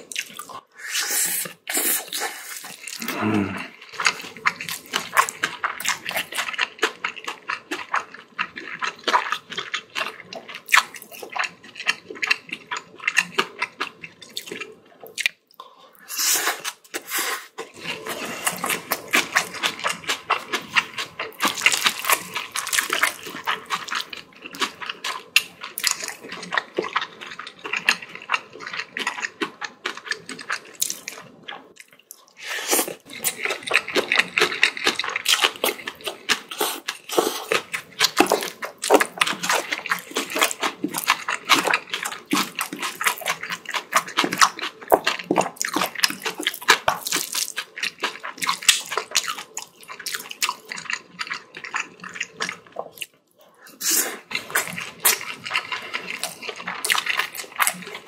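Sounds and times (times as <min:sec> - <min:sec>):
wet chewing and smacking: 0:00.0 - 0:00.7, 0:01.4 - 0:15.7, 0:16.6 - 0:58.0.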